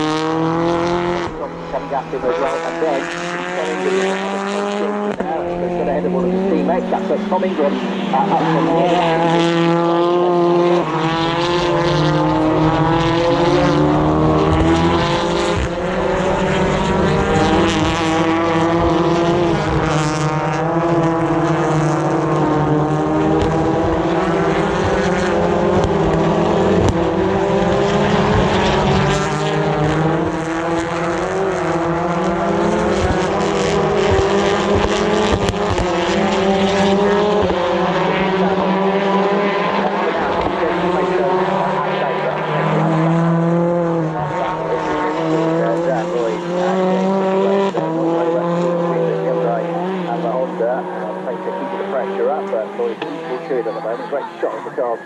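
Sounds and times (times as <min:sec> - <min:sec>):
racing car engines passing: 0:00.0 - 0:55.0.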